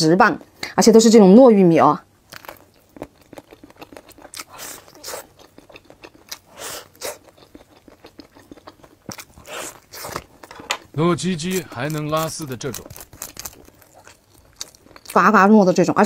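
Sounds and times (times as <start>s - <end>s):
person chewing corn: 2.3s - 15.3s.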